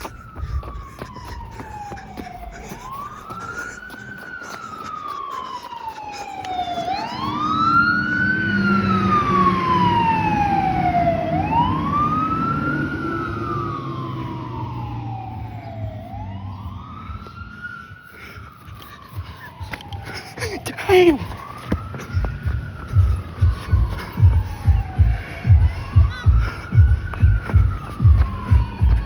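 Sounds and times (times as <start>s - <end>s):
truck engine rumble: 0.0s - 17.8s, 18.4s - 29.0s
fire engine siren wailing: 0.0s - 29.0s.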